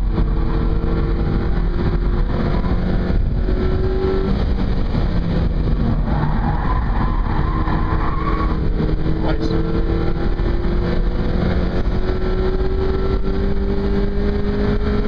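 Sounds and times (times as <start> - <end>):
car engine under hard driving: 0.0 - 15.0
road and wind noise: 0.0 - 15.0.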